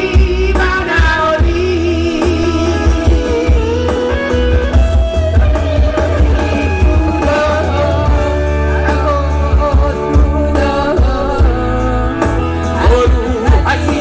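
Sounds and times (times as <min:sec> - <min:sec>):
man singing into microphone: 0:00.0 - 0:04.7, 0:05.3 - 0:14.0
live keyboard band music: 0:00.0 - 0:14.0.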